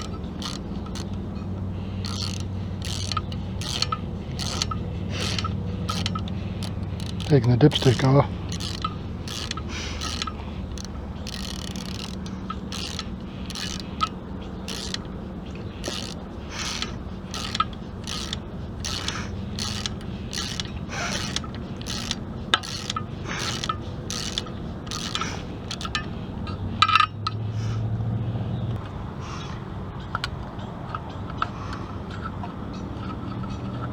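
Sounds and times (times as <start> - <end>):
socket ratchet clicking: 0.0 - 27.2
steady low hum: 0.0 - 33.9.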